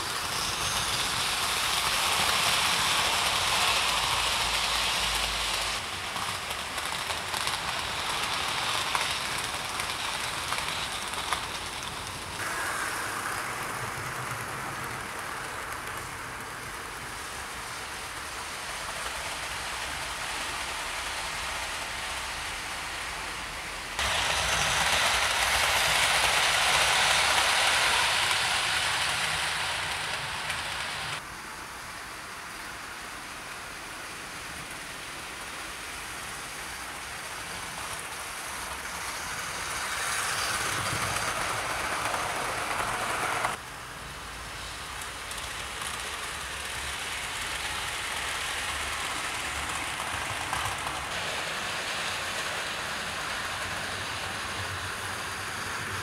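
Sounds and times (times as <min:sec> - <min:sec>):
model train wheels rattling on rail: 0:00.0 - 0:31.2, 0:34.4 - 0:56.0.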